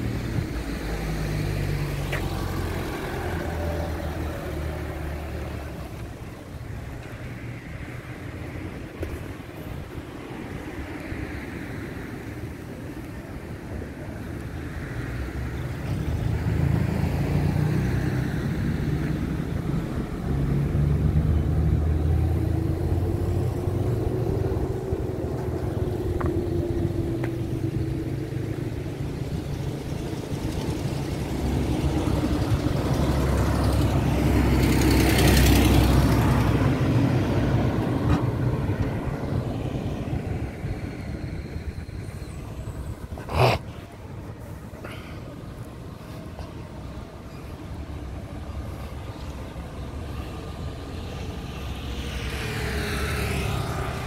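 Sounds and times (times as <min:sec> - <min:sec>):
vehicles driving past: 0:00.0 - 0:54.0.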